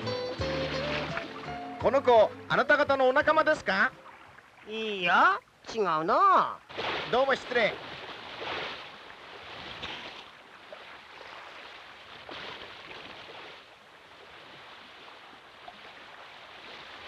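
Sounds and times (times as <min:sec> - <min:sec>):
water rushing and lapping: 0:00.0 - 0:17.0.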